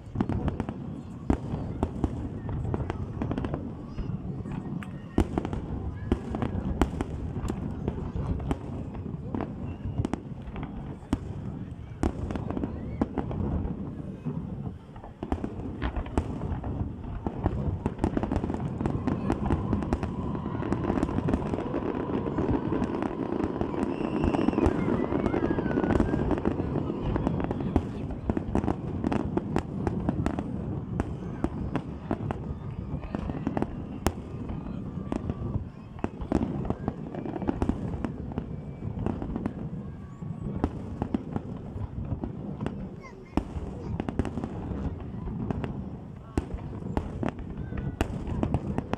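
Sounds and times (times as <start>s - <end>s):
fireworks cracking and popping: 0.0s - 48.9s
distant explosions rumbling: 0.1s - 48.9s.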